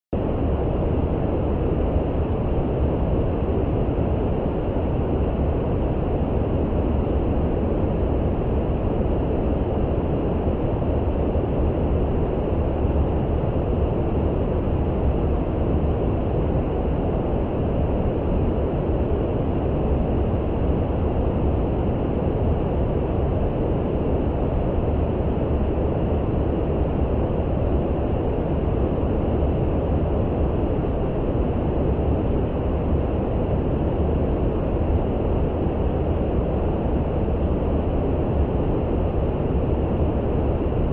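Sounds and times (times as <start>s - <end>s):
steady brown noise: 0.2s - 40.9s.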